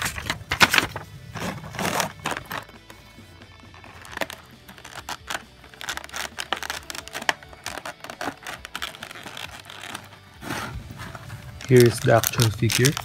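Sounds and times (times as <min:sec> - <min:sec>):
plastic tray crinkling and snapping: 0:00.0 - 0:03.0, 0:03.7 - 0:10.2, 0:11.1 - 0:13.0.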